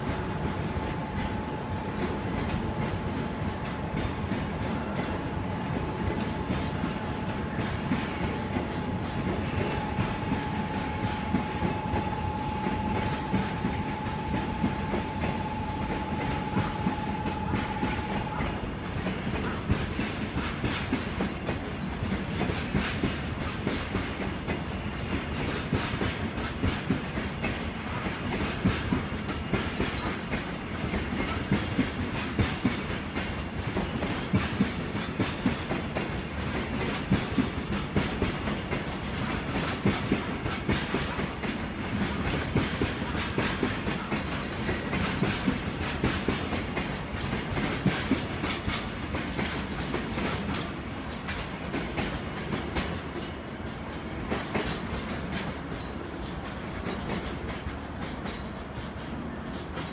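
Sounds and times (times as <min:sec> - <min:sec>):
train wheels clicking over rails: 0:00.0 - 0:59.9.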